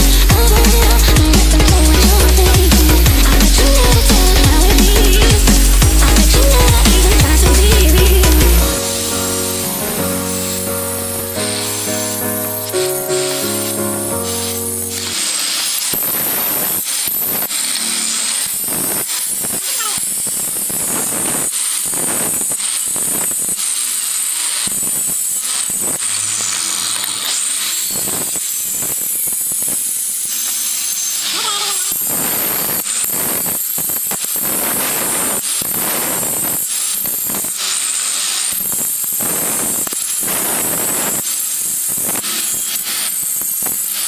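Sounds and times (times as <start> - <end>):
electric cutter grinding stone: 0.0 - 44.0.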